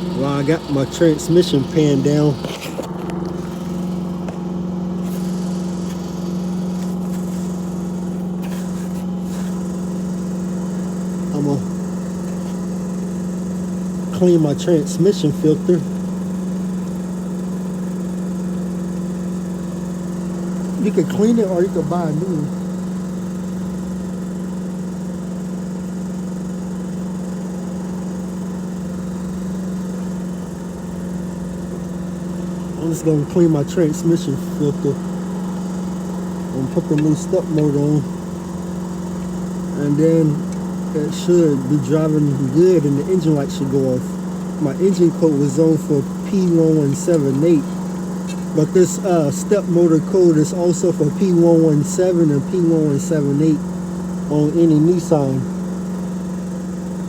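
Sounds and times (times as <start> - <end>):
engine humming steadily: 0.0 - 57.0.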